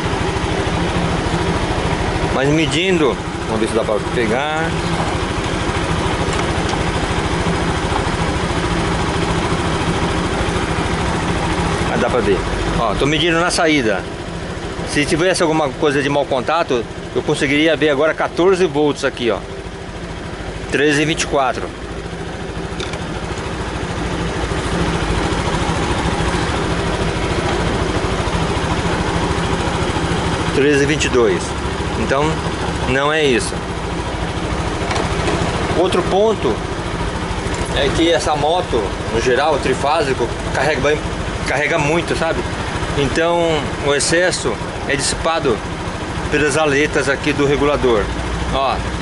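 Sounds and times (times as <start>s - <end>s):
scooter engine idling: 0.0s - 49.0s.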